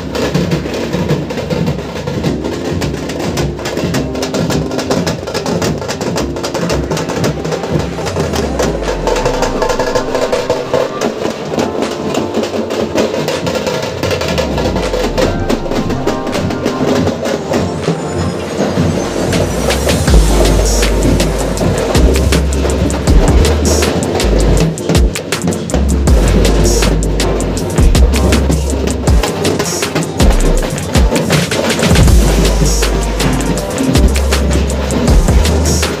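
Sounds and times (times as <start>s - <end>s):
drum band playing: 0.0s - 36.0s
pitched melody line: 0.0s - 36.0s.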